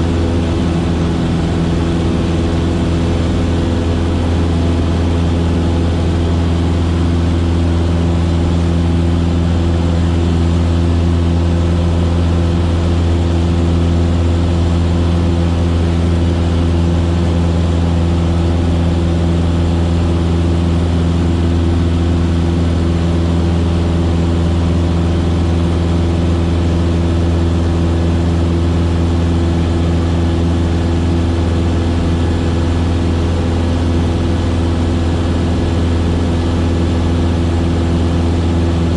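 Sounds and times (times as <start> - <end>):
propeller plane engine in flight: 0.0 - 38.9.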